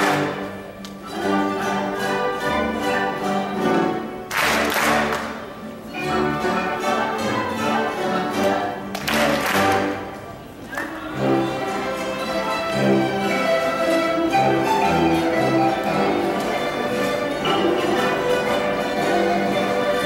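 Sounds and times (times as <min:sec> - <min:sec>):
marimba notes: 0:00.0 - 0:09.7, 0:11.0 - 0:20.0.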